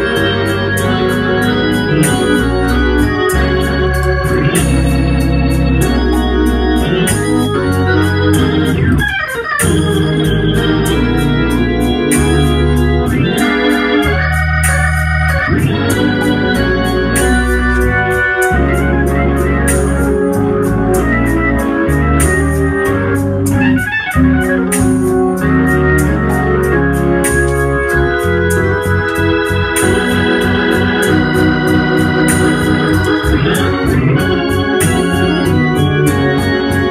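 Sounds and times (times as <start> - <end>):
bass line: 0.0 - 36.9
organ chords: 0.0 - 36.9.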